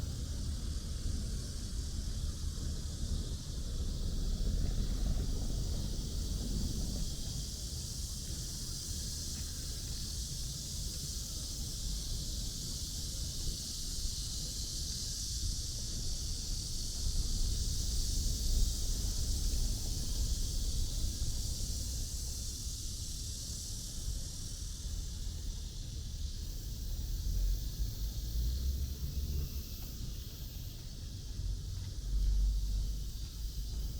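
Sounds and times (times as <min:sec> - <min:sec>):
steady high hiss: 0:00.0 - 0:33.9.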